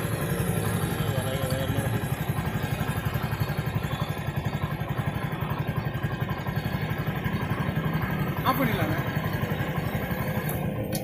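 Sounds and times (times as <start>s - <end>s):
moped engine idling: 0.0s - 11.0s.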